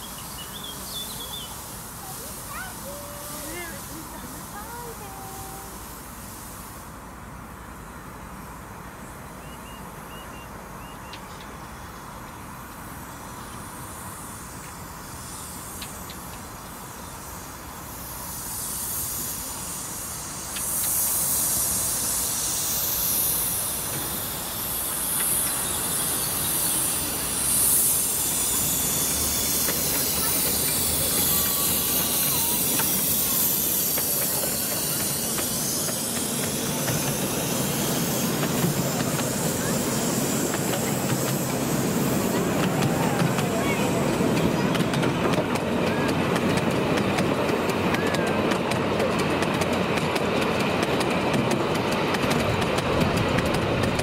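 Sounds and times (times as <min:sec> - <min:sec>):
carriages rolling on rails: 0:00.0 - 0:06.3, 0:07.4 - 0:54.0
steam hissing from locomotive: 0:00.0 - 0:54.0.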